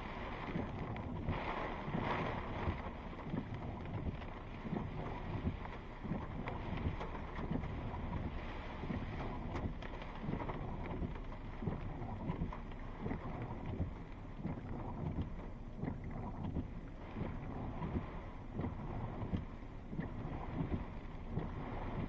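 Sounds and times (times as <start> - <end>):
wind and rain: 0.0 - 22.0.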